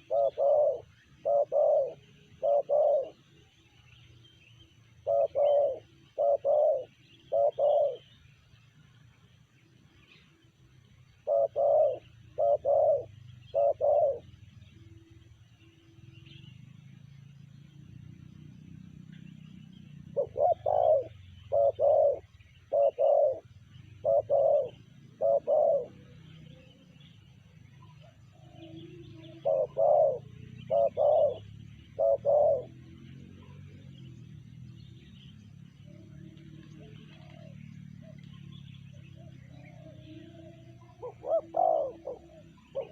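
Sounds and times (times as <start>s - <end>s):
dove cooing: 0.0s - 3.7s, 4.8s - 8.4s, 10.0s - 42.9s
steady low hum: 0.0s - 42.9s.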